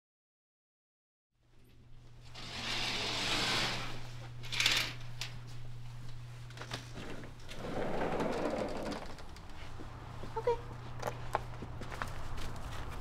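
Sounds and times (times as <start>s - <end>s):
steady low hum: 1.4s - 13.0s.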